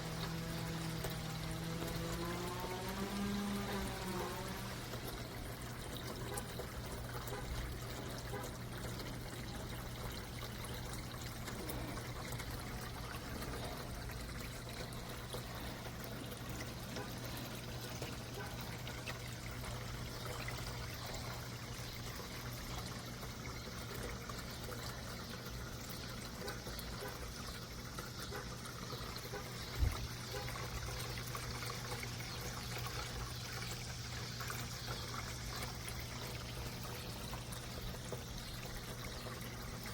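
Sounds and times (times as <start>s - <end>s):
fountain water pouring: 0.0s - 39.9s
low pump hum: 0.0s - 39.9s.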